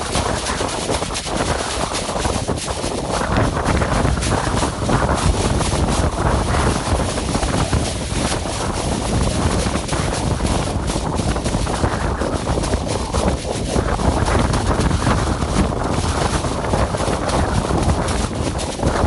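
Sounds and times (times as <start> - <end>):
deep rumble: 0.0 - 19.0
loud rushing noise: 0.0 - 19.0.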